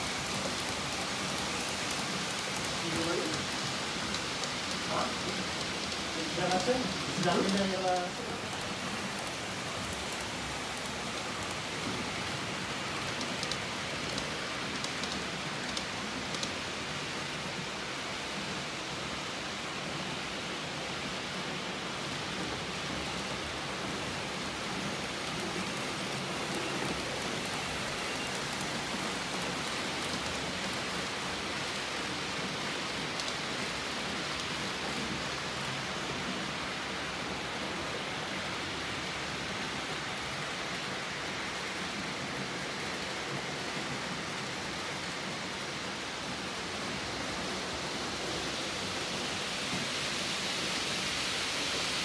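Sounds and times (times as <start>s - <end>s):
model train wheels on rails: 0.0s - 19.1s, 21.2s - 52.0s.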